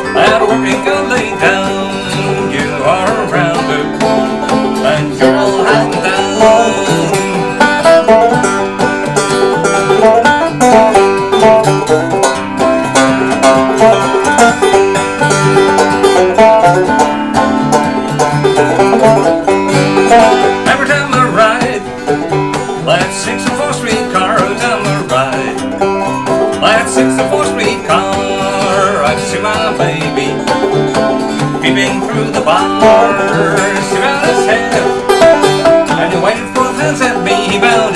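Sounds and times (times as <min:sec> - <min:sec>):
banjo melody: 0:00.0 - 0:37.9
strummed acoustic guitar: 0:00.0 - 0:37.9.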